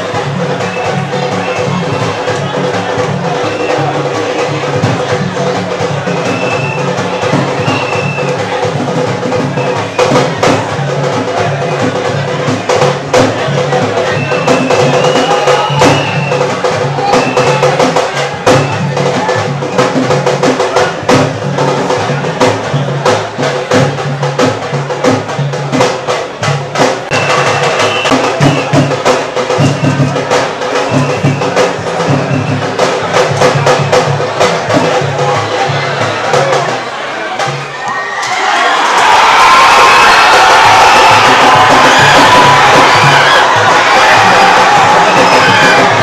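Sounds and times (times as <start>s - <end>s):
fast drumming: 0.0s - 37.8s, 38.4s - 46.0s
crowd voices: 0.0s - 46.0s.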